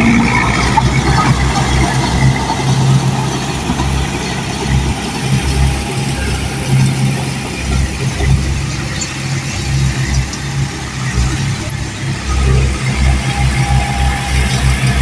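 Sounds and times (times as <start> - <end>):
bulldozer diesel engine rumble: 0.0 - 15.0.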